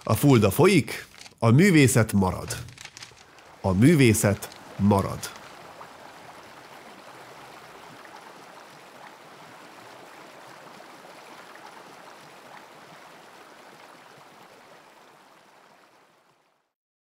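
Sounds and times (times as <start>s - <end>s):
stream water flowing: 0.0s - 16.7s.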